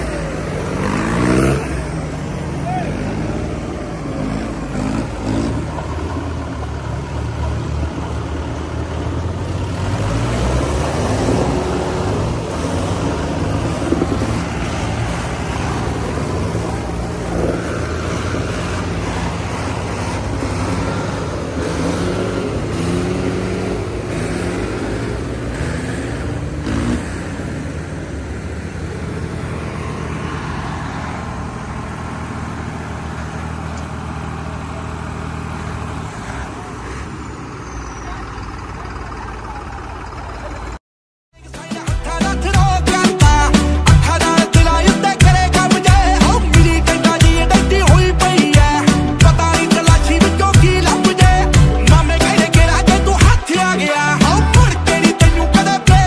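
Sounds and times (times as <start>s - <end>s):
tractor diesel engines running: 0.0s - 40.8s, 41.4s - 56.0s.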